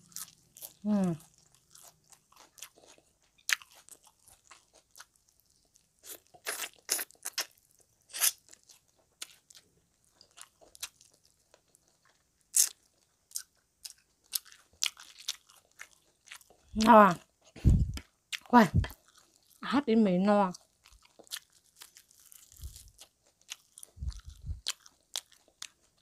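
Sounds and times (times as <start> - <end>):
chewing crunching meat and bones: 0.0 - 16.7, 17.3 - 19.6, 20.4 - 26.0.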